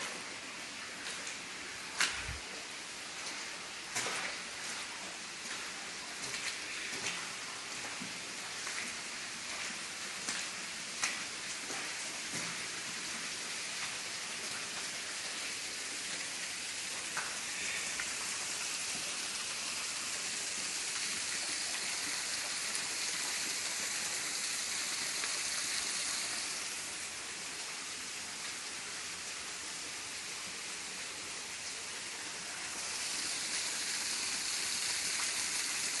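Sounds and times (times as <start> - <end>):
water flowing in a channel: 0.0 - 36.0.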